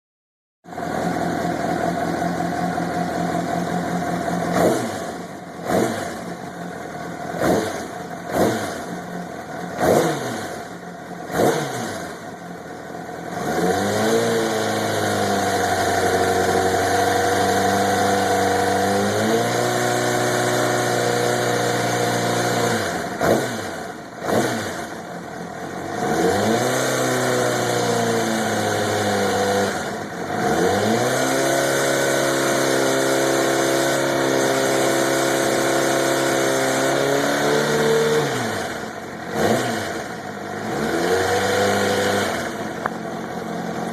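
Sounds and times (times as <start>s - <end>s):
motorcycle engine idling and revving: 0.6s - 43.9s.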